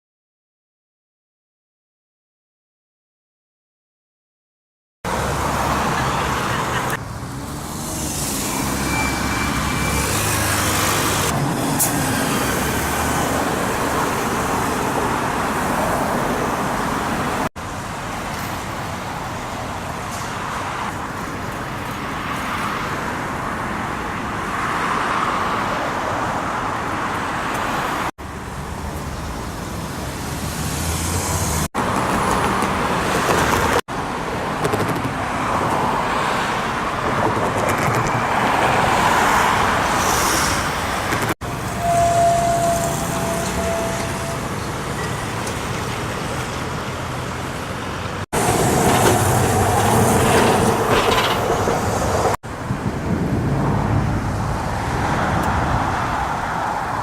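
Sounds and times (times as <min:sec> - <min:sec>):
road traffic passing: 0:05.0 - 0:57.0.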